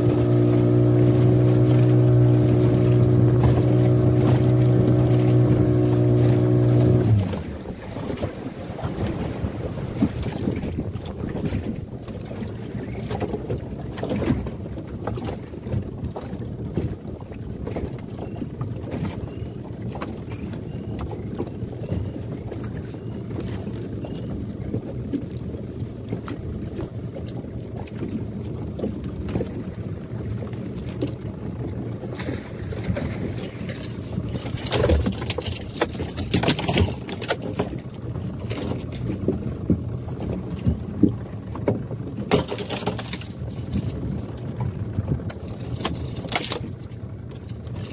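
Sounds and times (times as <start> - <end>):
outboard motor running: 0.0 - 47.9
water splashing against hull: 0.0 - 47.9
wind: 0.0 - 47.9.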